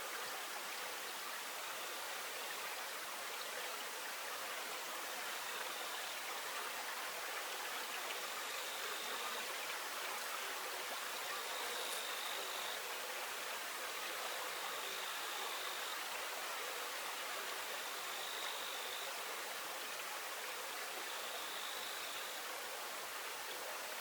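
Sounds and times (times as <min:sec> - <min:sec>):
flowing river water: 0:00.0 - 0:24.0.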